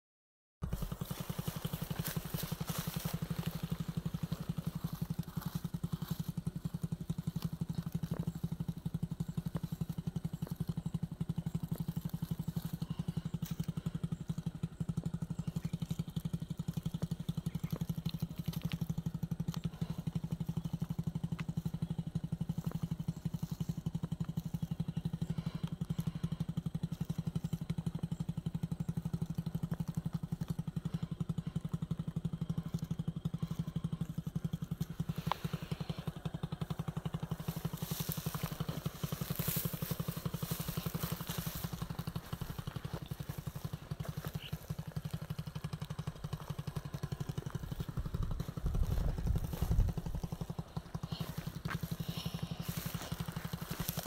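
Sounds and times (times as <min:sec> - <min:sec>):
small engine running: 0:00.6 - 0:54.0.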